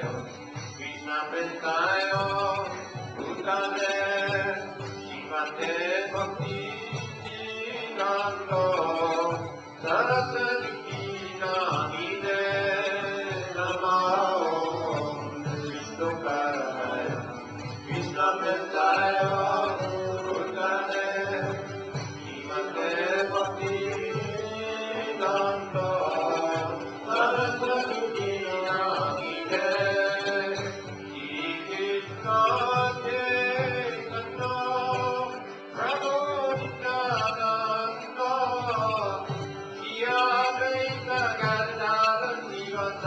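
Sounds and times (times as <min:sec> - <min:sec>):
devotional chanting: 0:00.0 - 0:43.0.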